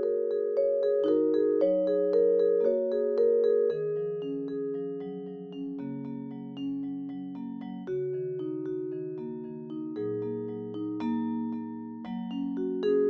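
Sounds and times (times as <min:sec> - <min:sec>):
mallet percussion music: 0:00.0 - 0:13.0.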